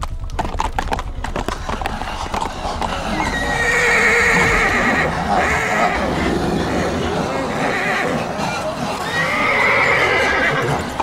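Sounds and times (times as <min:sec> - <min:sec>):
hooves galloping on pavement: 0:00.0 - 0:11.0
horse neighing: 0:01.5 - 0:11.0.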